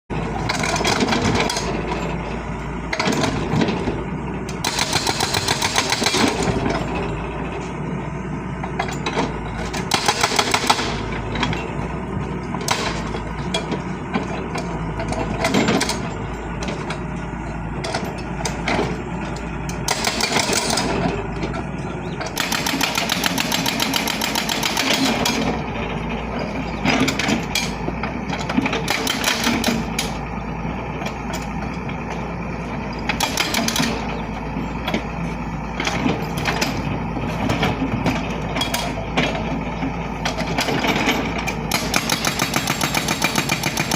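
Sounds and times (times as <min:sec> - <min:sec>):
excavator diesel engine running: 0:00.1 - 0:43.9.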